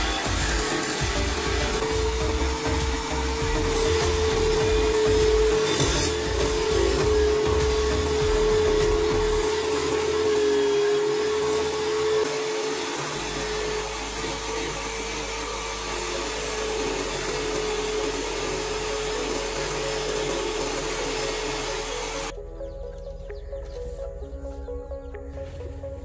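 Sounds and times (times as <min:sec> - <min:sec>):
electric tool fan running: 0:00.0 - 0:22.4.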